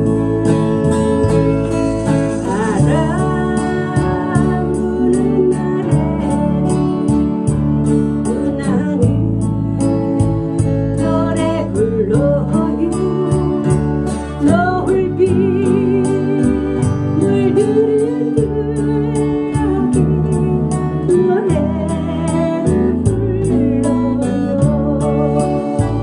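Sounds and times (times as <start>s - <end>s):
strummed acoustic guitar: 0.0s - 26.0s
woman singing a ballad: 0.0s - 26.0s.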